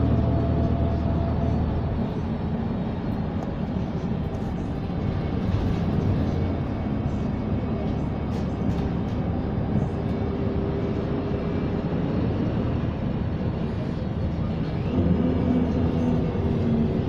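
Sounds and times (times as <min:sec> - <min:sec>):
bus engine rumbling from inside: 0:00.0 - 0:17.0.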